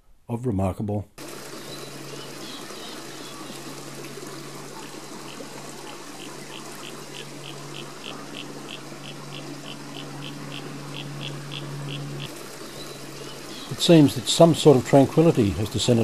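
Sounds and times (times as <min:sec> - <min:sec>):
creek water trickling: 0:01.2 - 0:16.0
steady low hum: 0:01.2 - 0:16.0.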